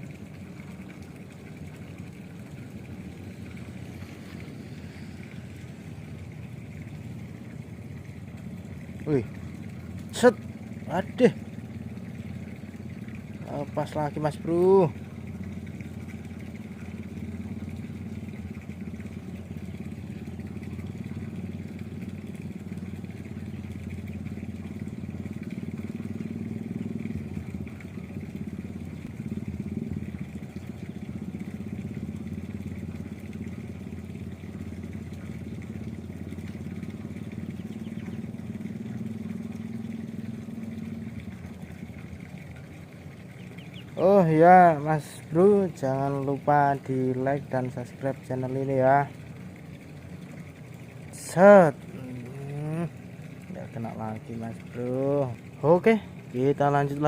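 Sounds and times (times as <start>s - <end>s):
small engine droning: 0.0s - 57.0s.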